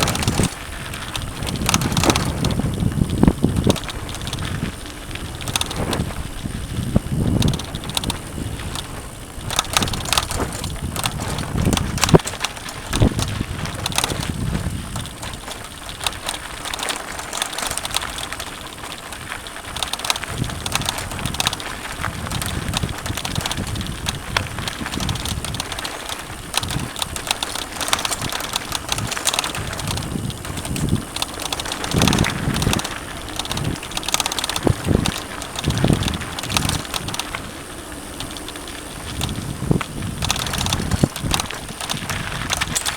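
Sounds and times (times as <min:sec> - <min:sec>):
bike rattling and knocking: 0:00.0 - 0:42.9
tyres crunching on gravel: 0:00.0 - 0:42.9
wind noise on microphone: 0:00.0 - 0:42.9.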